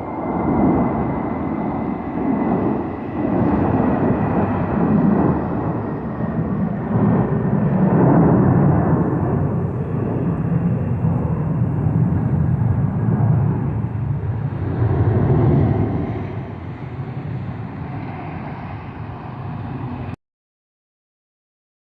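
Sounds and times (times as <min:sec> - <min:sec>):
jet engines at takeoff: 0:00.0 - 0:20.2.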